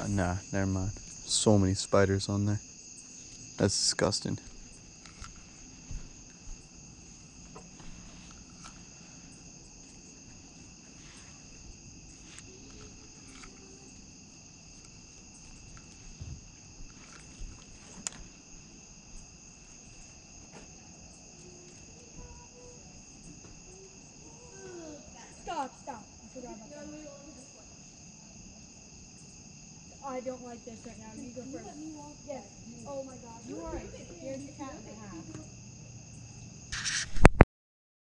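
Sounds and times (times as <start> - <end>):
night insects trilling: 0.0 - 37.2.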